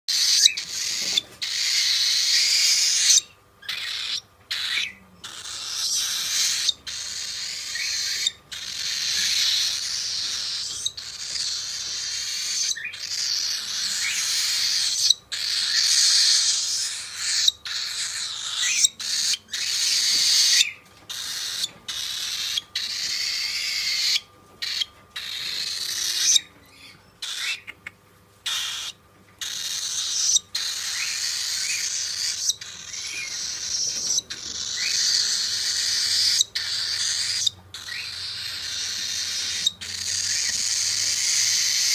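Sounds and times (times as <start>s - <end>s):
cockatiel hissing calls: 0.1s - 26.4s, 27.2s - 27.7s, 28.4s - 41.9s.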